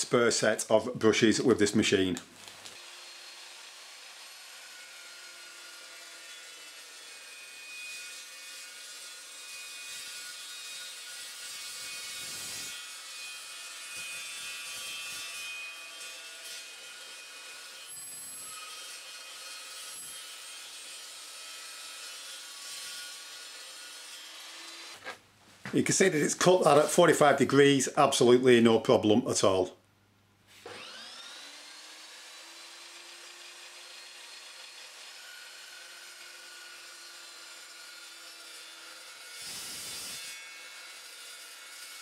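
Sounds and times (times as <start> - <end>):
chop saw cutting steel: 2.6 - 25.2, 26.0 - 27.4, 30.6 - 42.0.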